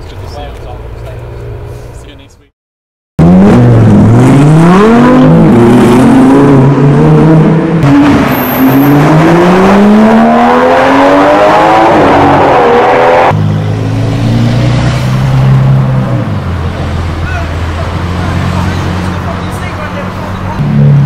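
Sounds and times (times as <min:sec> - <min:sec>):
car engine revving: 0:03.2 - 0:21.0.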